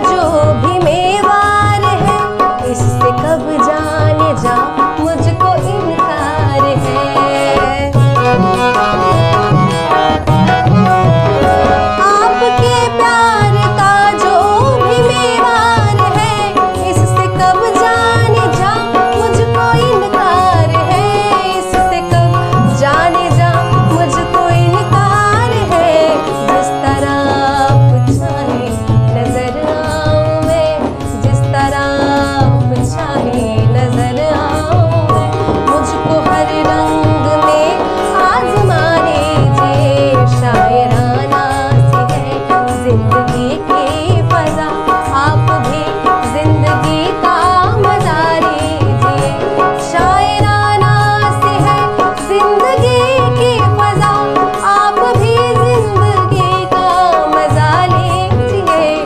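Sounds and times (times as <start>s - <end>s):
harmonium: 0.0s - 59.0s
woman singing: 0.0s - 59.0s.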